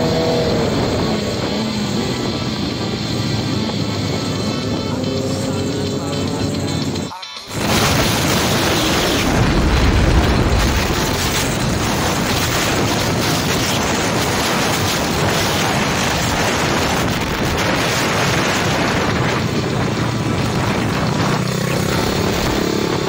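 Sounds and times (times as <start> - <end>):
motorcycle riding noise: 0.0 - 23.0
wind rushing on microphone: 0.0 - 23.0.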